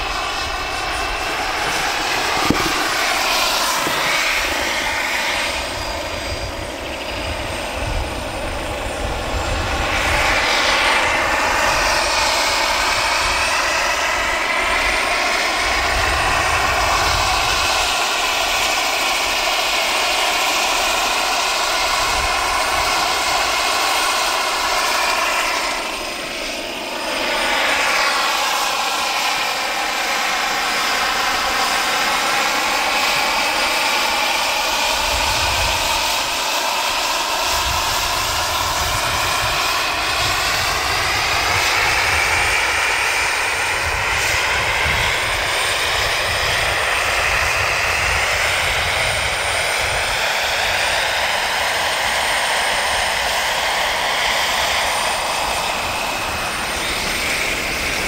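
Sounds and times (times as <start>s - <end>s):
model helicopter turbine whining: 0.0s - 58.0s.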